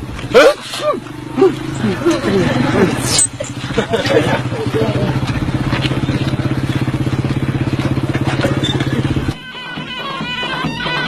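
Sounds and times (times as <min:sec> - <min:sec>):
engine chugging: 0:00.0 - 0:11.0.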